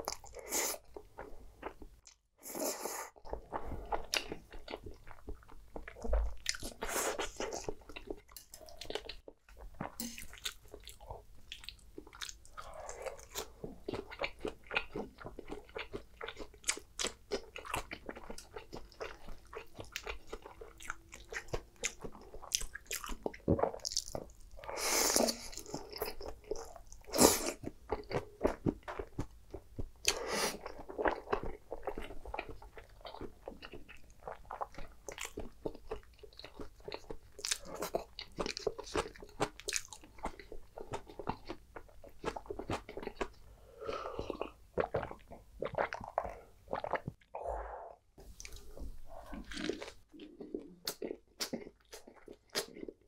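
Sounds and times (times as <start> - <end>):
close-miked chewing and crunching: 0.0 - 47.4, 48.2 - 53.0.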